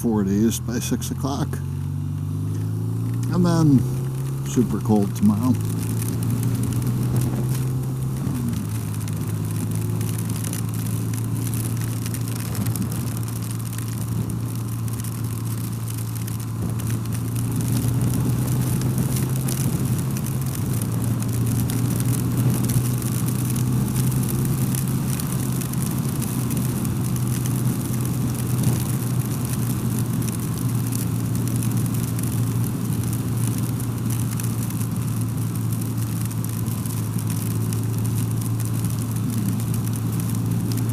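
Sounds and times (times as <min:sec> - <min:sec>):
motorcycle engine running: 0:00.0 - 0:40.9
road noise: 0:00.0 - 0:40.9.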